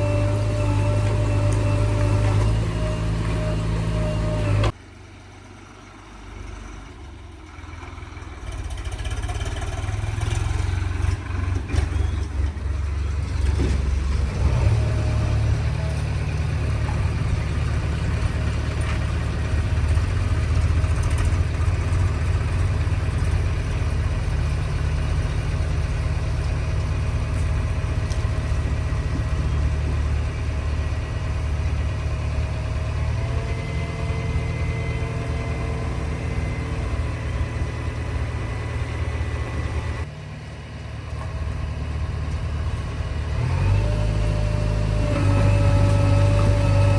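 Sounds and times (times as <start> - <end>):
diesel engine low rumble: 0.0 - 46.9.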